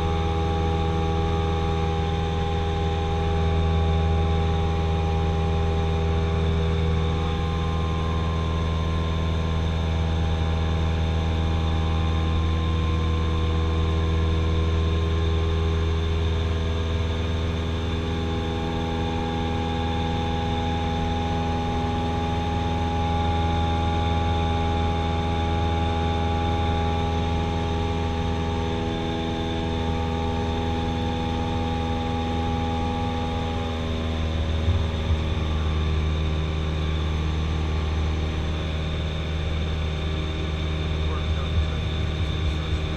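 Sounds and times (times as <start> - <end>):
aircraft engine and propeller humming: 0.0 - 42.9.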